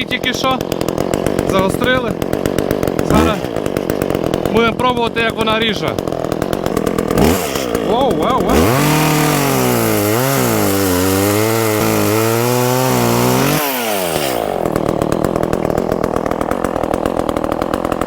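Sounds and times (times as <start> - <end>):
chainsaw cutting wood: 0.0 - 18.0
chainsaw idling unevenly: 0.0 - 18.0.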